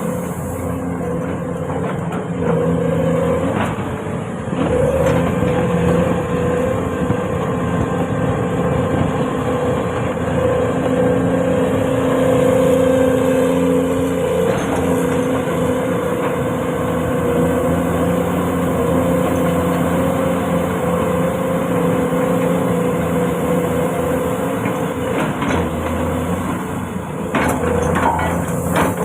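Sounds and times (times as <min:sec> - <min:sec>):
excavator engine and hydraulics: 0:00.0 - 0:29.0.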